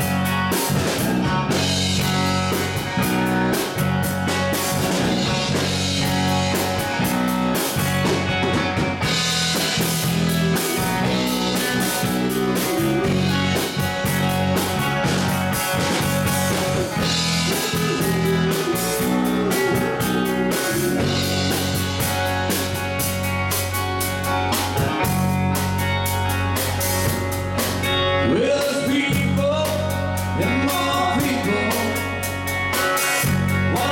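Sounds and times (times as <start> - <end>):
drum kit steady beat: 0.0 - 28.0, 28.6 - 33.9
electric bass: 0.0 - 33.9
electric guitars: 0.0 - 33.9.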